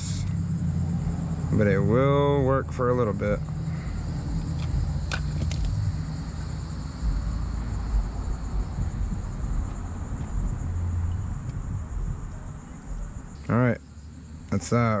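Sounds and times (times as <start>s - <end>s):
low rumble: 0.0s - 13.4s
insects chirring: 0.0s - 15.0s.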